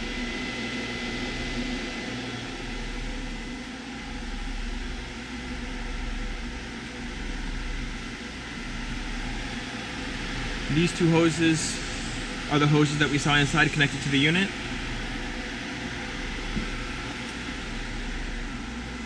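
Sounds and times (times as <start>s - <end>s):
electric cooling fans whirring: 0.0s - 19.0s
low hum: 0.0s - 19.0s.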